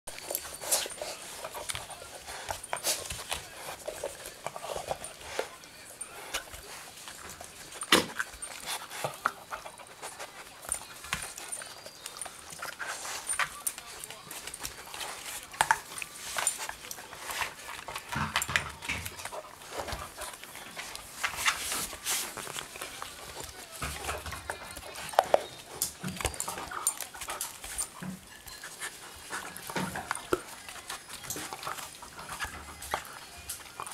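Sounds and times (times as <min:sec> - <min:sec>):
dog licking and gnawing toy: 0:00.1 - 0:33.9
dog panting: 0:00.1 - 0:33.9.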